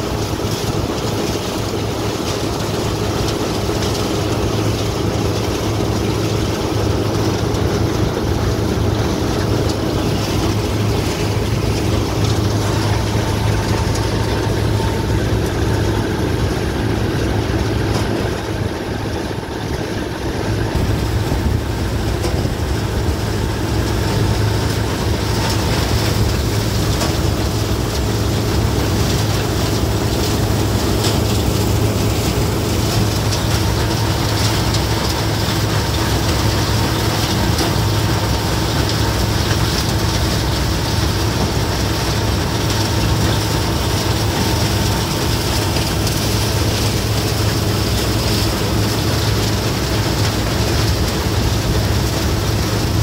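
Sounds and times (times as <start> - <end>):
engine humming steadily: 0.0 - 53.0.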